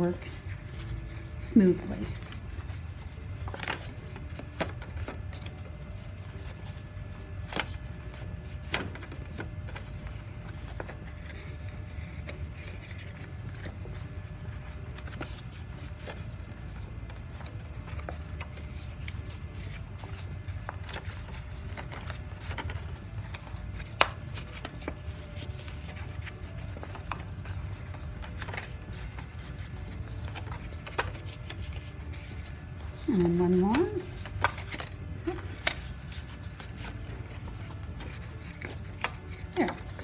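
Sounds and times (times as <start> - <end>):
paper rubbing with crackles: 0.0 - 40.0
steady low hum: 0.0 - 40.0.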